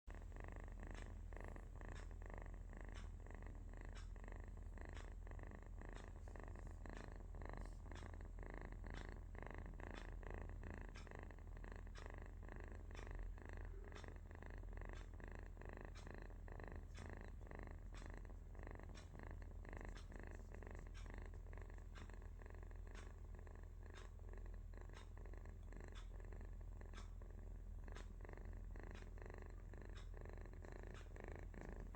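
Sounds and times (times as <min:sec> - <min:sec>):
kitten purring: 0:00.1 - 0:31.9.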